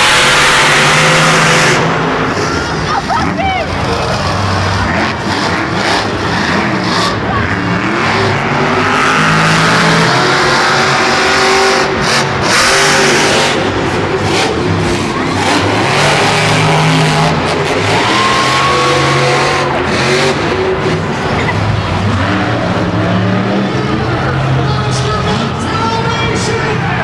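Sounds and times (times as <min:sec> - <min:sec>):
monster truck engines revving: 0:00.0 - 0:27.0.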